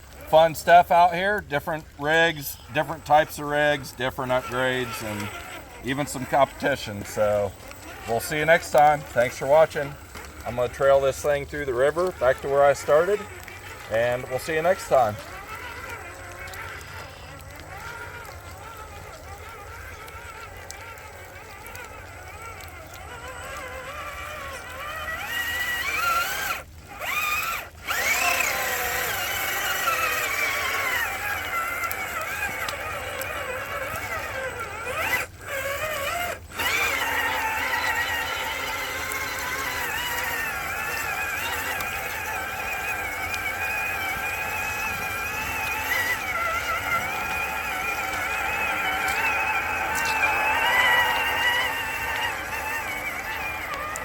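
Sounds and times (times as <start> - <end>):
electric motor and gears whining: 0.0 - 54.0.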